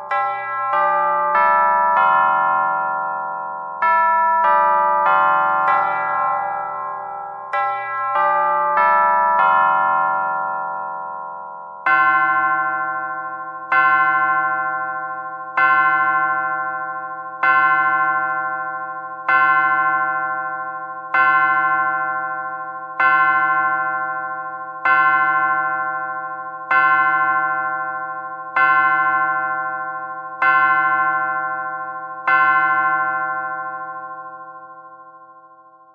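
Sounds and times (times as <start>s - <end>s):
clock bell striking: 0.0s - 35.9s.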